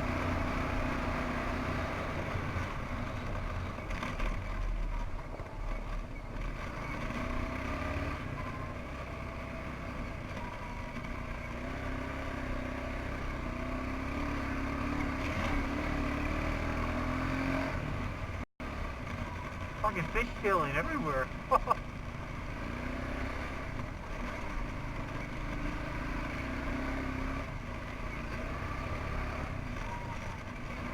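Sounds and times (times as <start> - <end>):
atv engine running: 0.0 - 30.9.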